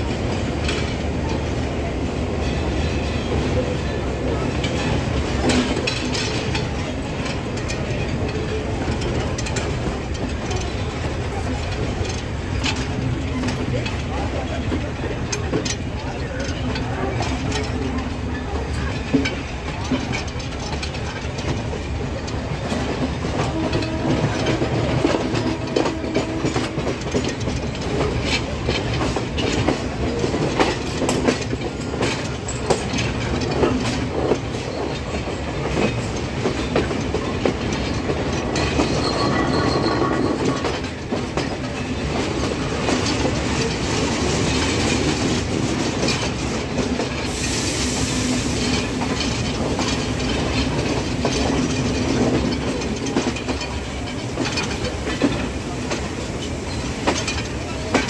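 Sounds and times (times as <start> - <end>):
clickety-clack over rail joints: 0.0 - 58.0
train wheels rumbling: 0.0 - 58.0.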